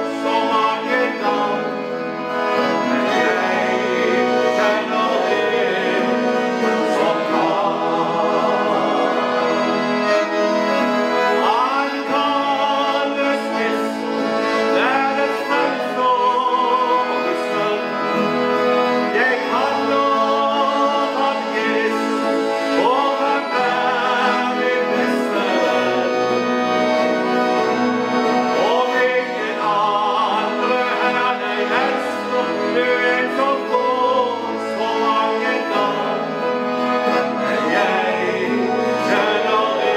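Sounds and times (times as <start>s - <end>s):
man singing: 0.0s - 1.8s, 2.9s - 9.7s, 11.3s - 18.4s, 19.0s - 26.2s, 28.6s - 36.4s, 37.5s - 39.9s
accordion chords: 0.0s - 39.9s.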